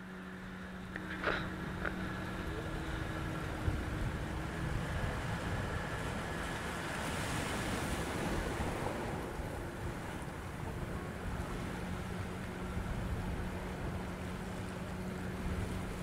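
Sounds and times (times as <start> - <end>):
outboard motor humming: 0.0 - 16.0
water rushing past boat hull: 0.0 - 16.0
wind buffeting microphone: 0.6 - 16.0.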